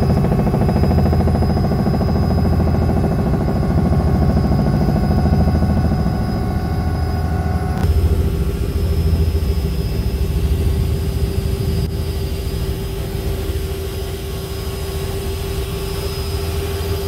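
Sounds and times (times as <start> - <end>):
helicopter engine and rotor drone: 0.0 - 17.0
helicopter whine: 0.0 - 17.0.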